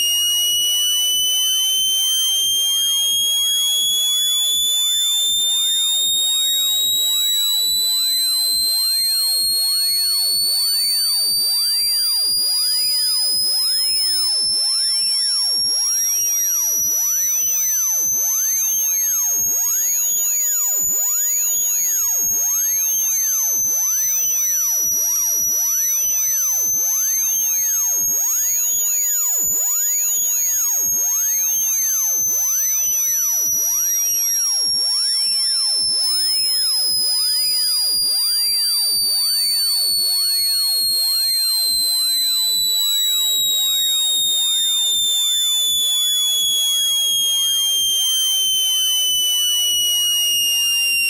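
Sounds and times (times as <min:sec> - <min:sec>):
high-pitched electronic whistle: 0:00.0 - 0:51.0.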